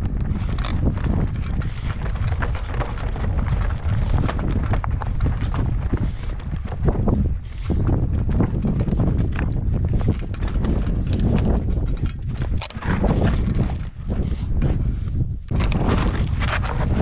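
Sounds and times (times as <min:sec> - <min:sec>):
footsteps on rocky path: 0:00.0 - 0:17.0
wind buffeting microphone: 0:00.0 - 0:17.0.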